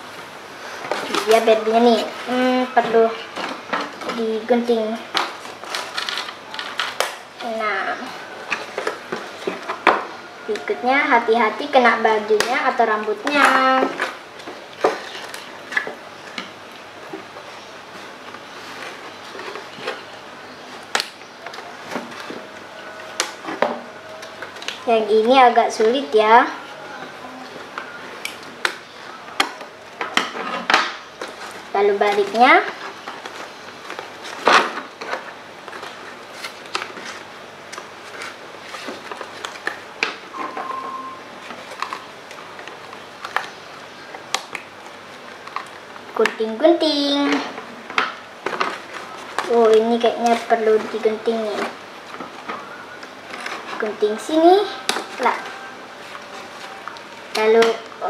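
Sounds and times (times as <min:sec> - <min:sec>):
packaging clicks and crinkles: 0:00.6 - 0:10.9, 0:11.5 - 0:58.0.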